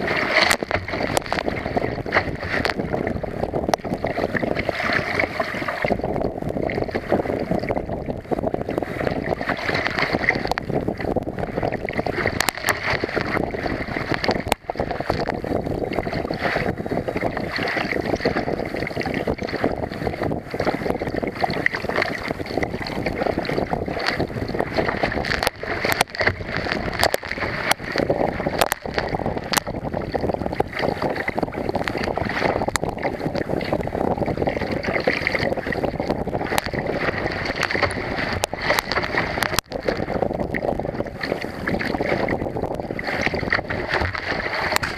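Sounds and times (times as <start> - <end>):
water rushing against boat: 0.0 - 44.9
wind buffeting microphone: 0.0 - 44.9.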